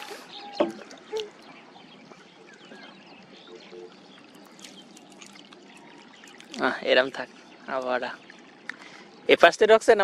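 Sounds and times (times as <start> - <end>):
water trickling and dripping: 0.0 - 10.0.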